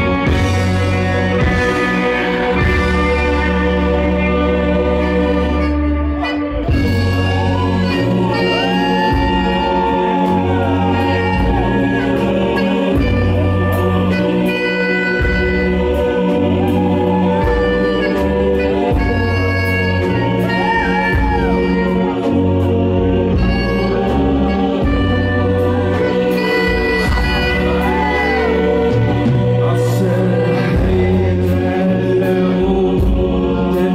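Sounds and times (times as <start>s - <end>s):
bass line: 0.0s - 33.9s
keyboard: 0.0s - 33.9s
saxophone: 0.0s - 33.9s.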